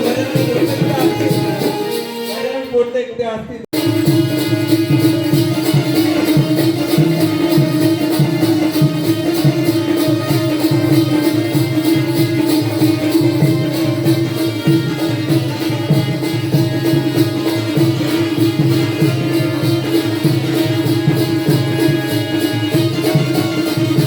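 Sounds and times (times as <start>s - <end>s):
brisk drum rhythm: 0.0s - 2.8s, 3.7s - 24.0s
held instrumental note: 0.0s - 3.0s, 3.7s - 24.0s.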